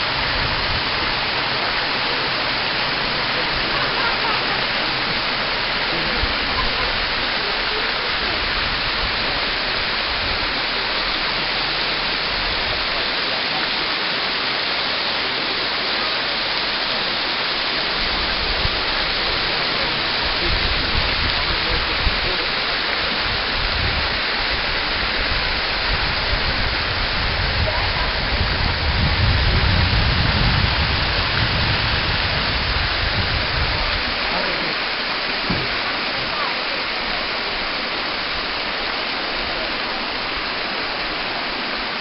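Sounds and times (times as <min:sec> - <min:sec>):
waterfall rushing into pool: 0:00.0 - 0:42.0.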